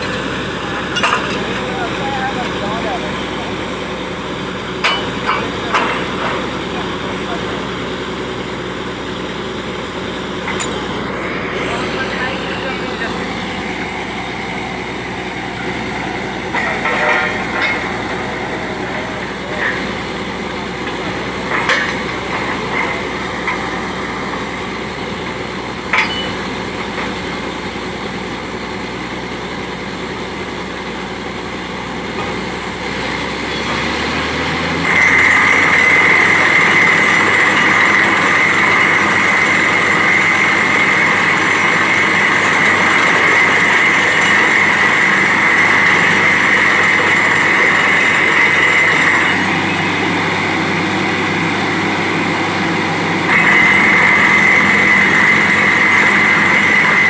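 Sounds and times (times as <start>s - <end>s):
drilling rig machinery running: 0.0s - 57.0s.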